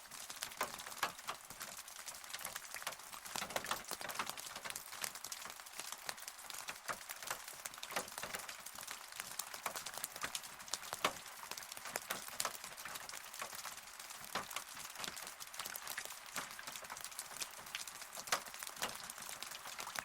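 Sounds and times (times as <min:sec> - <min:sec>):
rain hiss: 0:00.0 - 0:20.0
raindrops ticking on hard surface: 0:00.0 - 0:20.0.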